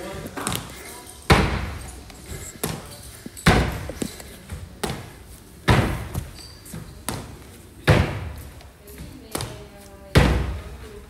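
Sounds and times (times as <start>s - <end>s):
feet thudding on box: 0.3s - 9.6s.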